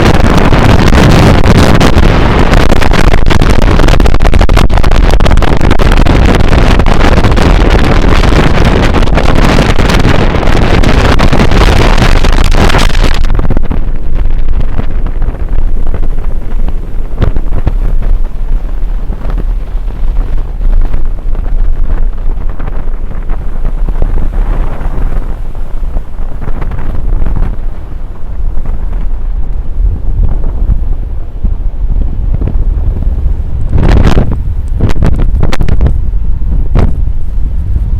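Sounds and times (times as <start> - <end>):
gale wind buffeting microphone: 0.0 - 37.9.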